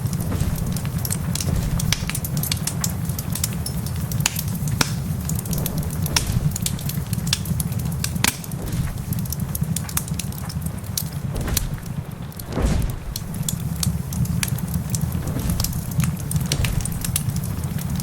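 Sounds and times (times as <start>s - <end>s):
low rumble of storm: 0.0s - 18.0s
sharp pops of fire: 0.0s - 18.0s
wood fire crackling: 0.0s - 18.0s.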